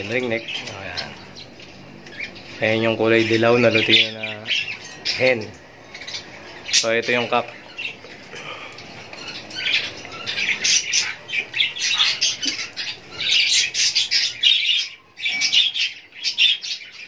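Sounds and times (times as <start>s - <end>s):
parakeets squawking: 0.0s - 17.0s.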